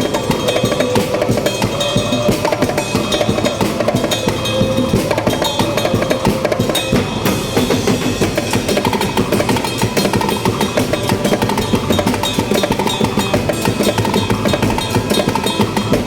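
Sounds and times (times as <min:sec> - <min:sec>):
drum band playing: 0:00.0 - 0:16.0.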